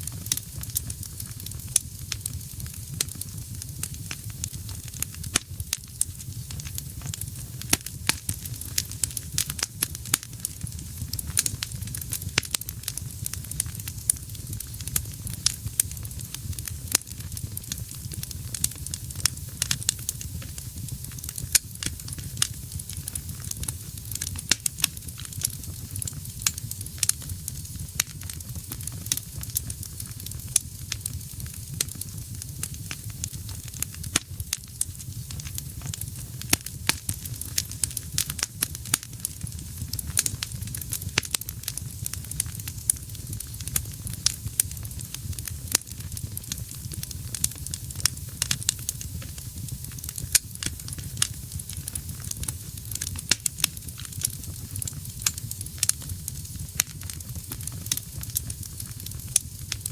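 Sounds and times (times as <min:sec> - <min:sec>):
low rumble of flame: 0:00.0 - 0:59.9
wood fire crackling and popping: 0:00.0 - 0:59.9.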